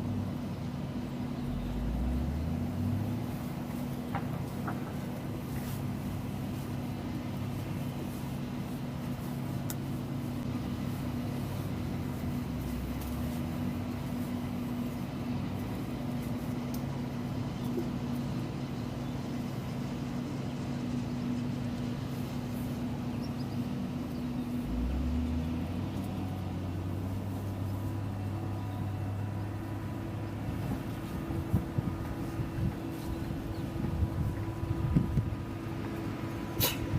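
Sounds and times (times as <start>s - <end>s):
diesel farm machinery running: 0.0s - 36.9s.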